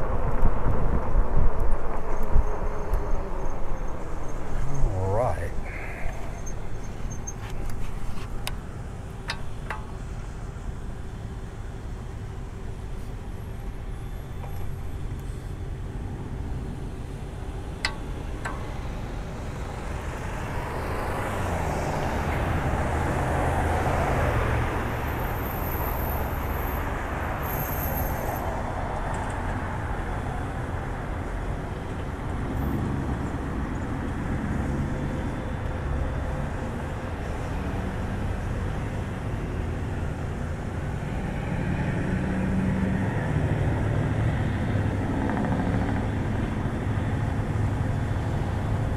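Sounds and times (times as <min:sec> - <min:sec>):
road traffic rushing: 0:00.0 - 0:48.9.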